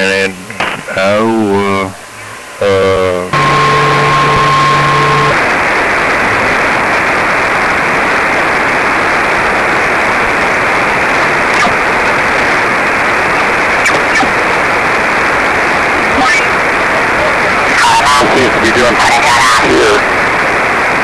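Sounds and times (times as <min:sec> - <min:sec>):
shortwave receiver static: 0:00.0 - 0:21.0.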